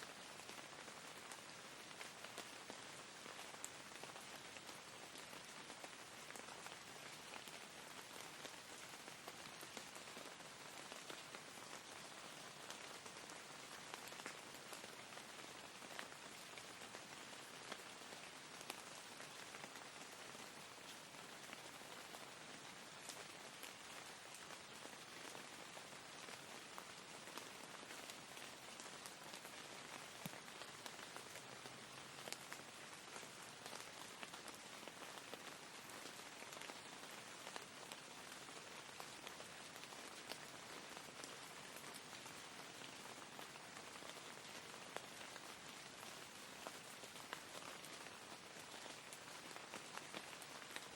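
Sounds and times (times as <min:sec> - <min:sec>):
soft rain falling: 0:00.0 - 0:50.9.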